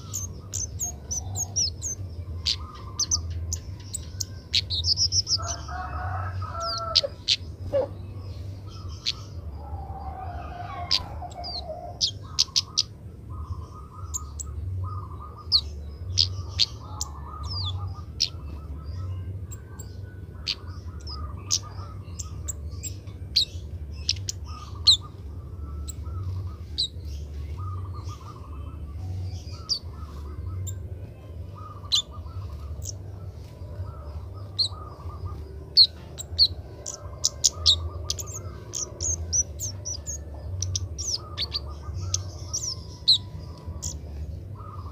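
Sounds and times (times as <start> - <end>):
birds chirping: 0.0 - 44.9
steady low hum: 0.0 - 44.9.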